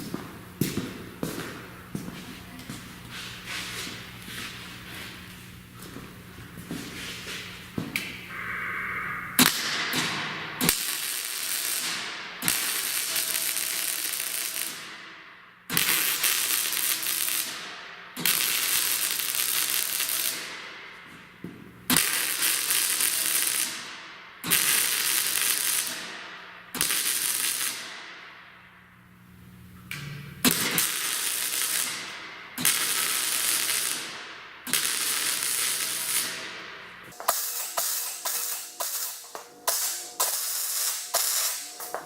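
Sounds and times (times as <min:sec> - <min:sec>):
arc welding crackle and hiss: 0:00.0 - 0:21.0, 0:21.9 - 0:28.4, 0:30.4 - 0:42.0.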